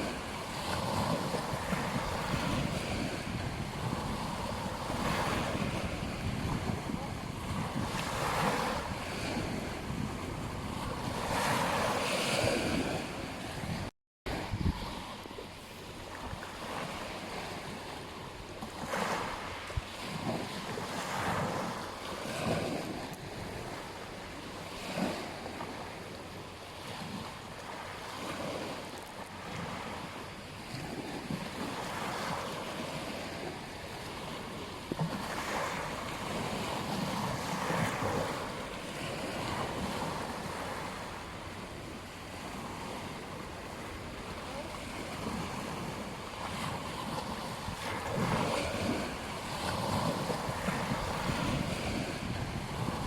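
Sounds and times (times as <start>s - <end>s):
wind noise on microphone: 0.0s - 25.8s, 26.8s - 53.0s
ocean waves breaking on beach: 0.0s - 53.0s.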